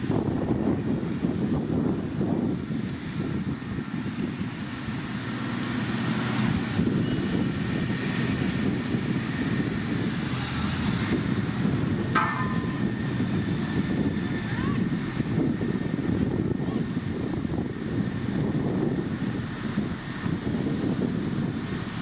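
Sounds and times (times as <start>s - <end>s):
diesel construction machine running: 0.0s - 22.0s
wind on microphone: 0.0s - 22.0s.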